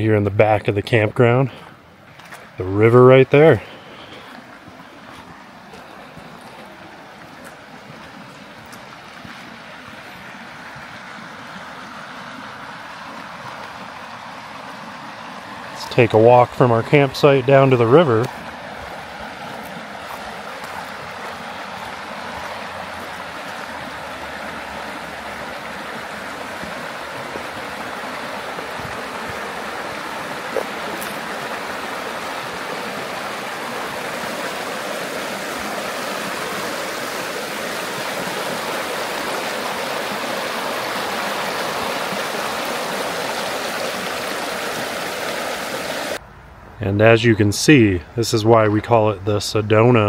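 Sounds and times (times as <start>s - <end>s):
river rushing over rocks: 3.7s - 46.2s.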